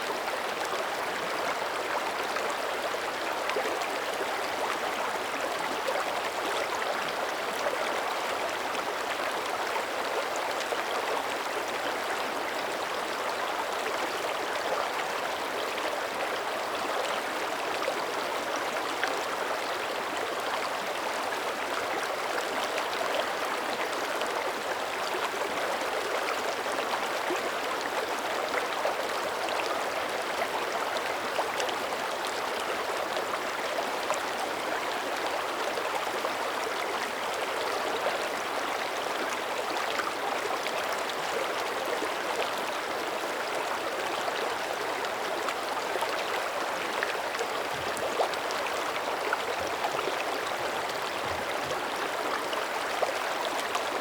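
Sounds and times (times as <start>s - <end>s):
creek running over rocks: 0.0s - 54.0s.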